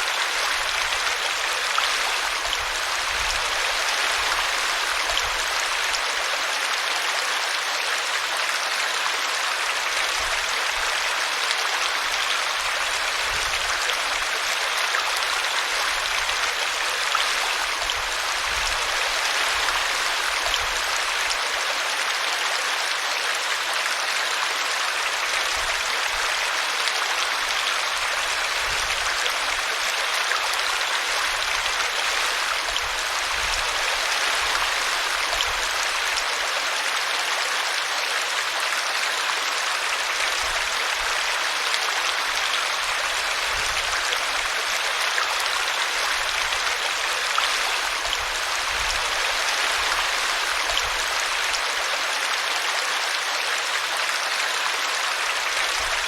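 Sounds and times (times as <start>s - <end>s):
brook babbling: 0.0s - 56.0s.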